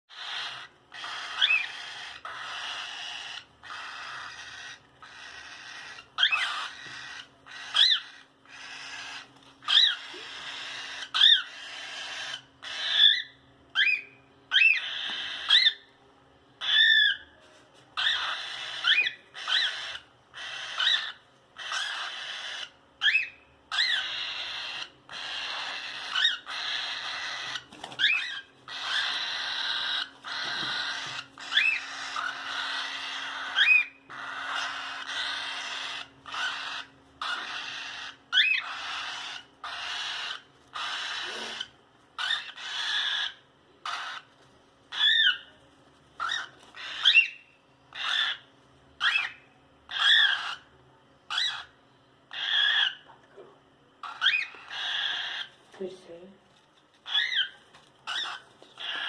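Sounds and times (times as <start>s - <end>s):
cockatiel chirping calls: 0.1s - 16.0s, 16.6s - 45.6s, 46.2s - 53.2s, 54.0s - 55.7s, 57.0s - 59.0s
faint steady hum: 0.1s - 59.0s.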